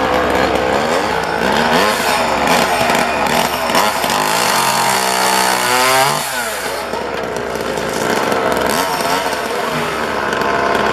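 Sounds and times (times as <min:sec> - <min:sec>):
chainsaw revving and cutting: 0:00.0 - 0:10.9.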